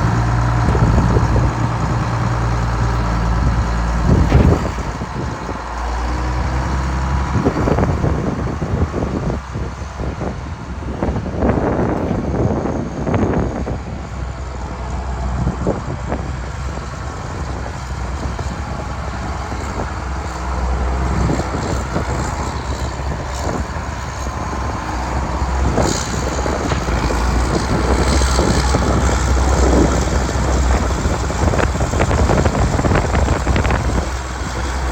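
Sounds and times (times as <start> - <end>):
tractor diesel engine running: 0.0 - 34.9
wind noise on microphone: 0.0 - 34.9.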